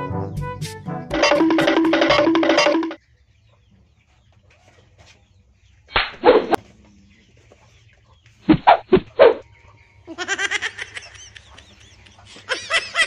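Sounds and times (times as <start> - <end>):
hen clucking: 1.2 - 13.0.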